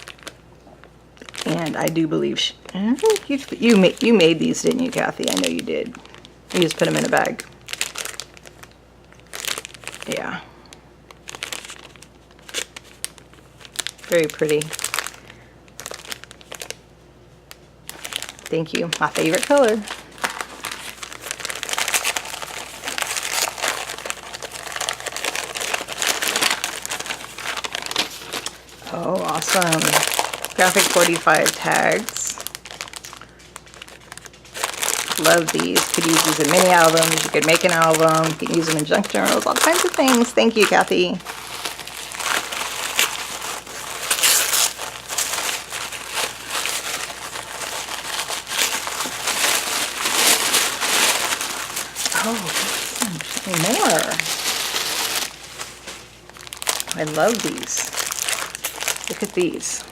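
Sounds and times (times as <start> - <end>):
plastic packaging crinkling: 0.0 - 59.9.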